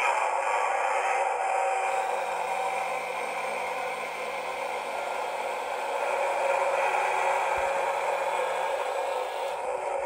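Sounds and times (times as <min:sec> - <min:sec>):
electric motor whirring: 0:01.8 - 0:10.0.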